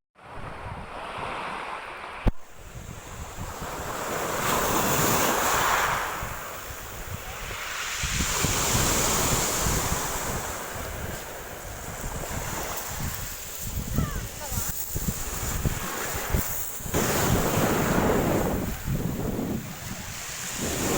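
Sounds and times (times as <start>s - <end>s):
sea waves washing ashore: 0.2s - 20.9s
wind buffeting microphone: 2.3s - 20.9s.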